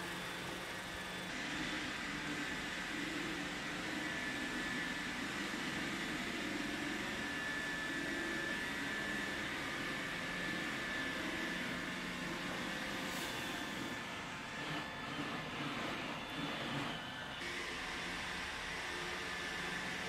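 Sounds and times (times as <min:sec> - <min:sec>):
robot vacuum cleaner whirring: 0:00.0 - 0:20.0.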